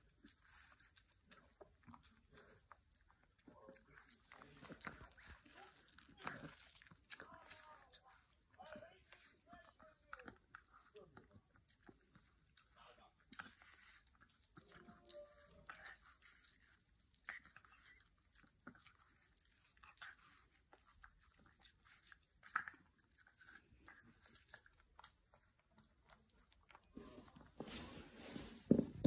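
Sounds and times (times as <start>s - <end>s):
puppy crunching watermelon: 0.0s - 27.6s.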